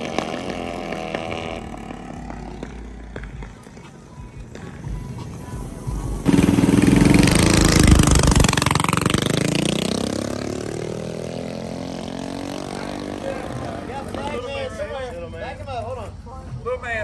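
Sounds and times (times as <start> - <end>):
mini-bike engines accelerating: 0.0 - 14.7.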